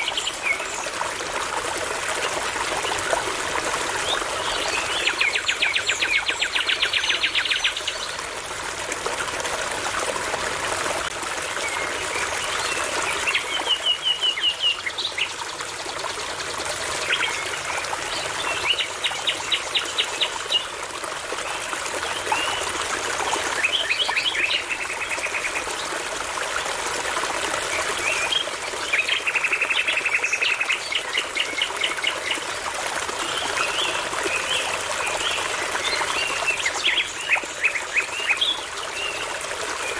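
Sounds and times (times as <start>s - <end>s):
brook trickling: 0.0s - 39.9s.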